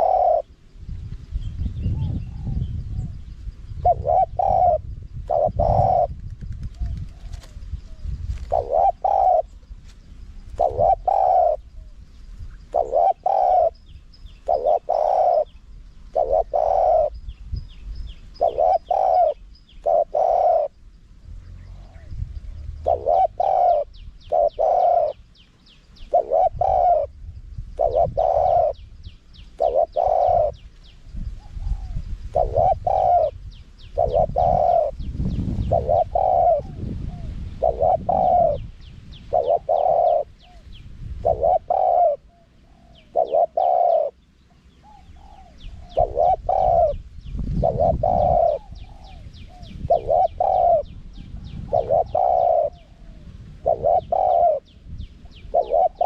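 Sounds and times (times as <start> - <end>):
dove cooing: 0.0 - 0.7, 1.7 - 9.8, 10.4 - 17.4, 18.3 - 30.7, 31.3 - 56.0.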